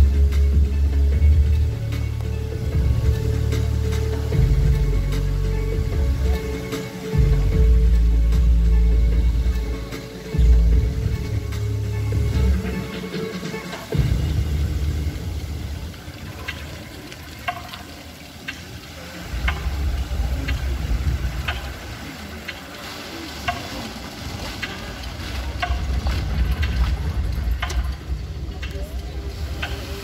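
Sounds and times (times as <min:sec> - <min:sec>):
low rumble: 0:00.0 - 0:12.9, 0:13.9 - 0:16.5, 0:19.2 - 0:22.4, 0:23.8 - 0:30.0
fountain jets spraying and splashing: 0:00.0 - 0:30.0.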